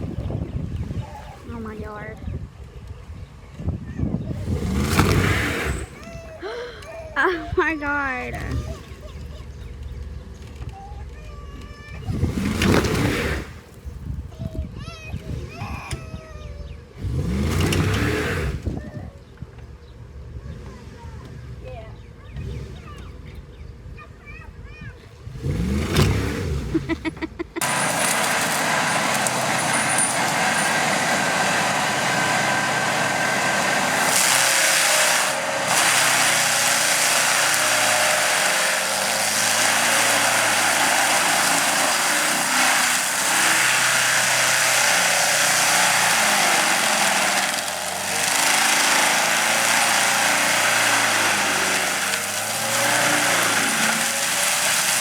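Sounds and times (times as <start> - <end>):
engine running: 0.0 - 24.0, 24.6 - 55.0.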